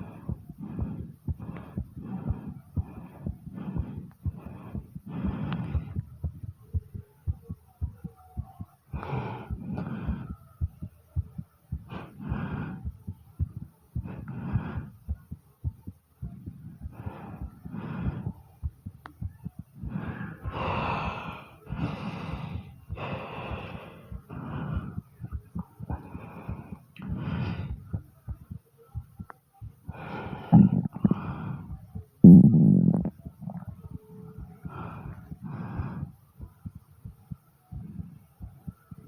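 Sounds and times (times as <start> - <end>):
slow deep breathing: 0.0 - 6.6, 8.4 - 15.4, 16.2 - 28.4, 29.8 - 39.0
heartbeat thumps: 0.0 - 39.0.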